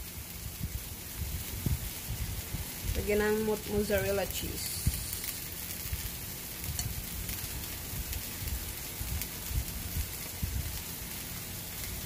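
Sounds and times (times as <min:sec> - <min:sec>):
food sizzling in a frying pan: 0:00.0 - 0:12.0
low rumble: 0:00.4 - 0:10.8.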